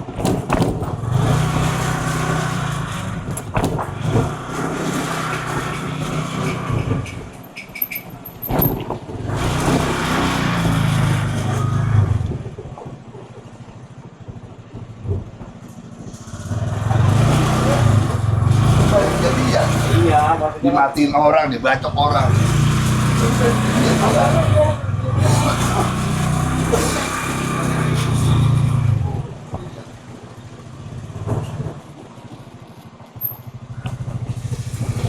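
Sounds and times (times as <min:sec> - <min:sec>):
vehicle engine revving: 0:00.0 - 0:07.5, 0:08.5 - 0:12.9, 0:16.0 - 0:35.0.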